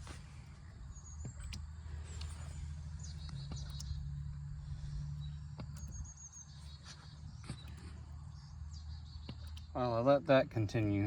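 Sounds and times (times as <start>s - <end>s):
steady low rumble: 0.0s - 9.7s
songbirds chirping: 0.0s - 11.0s.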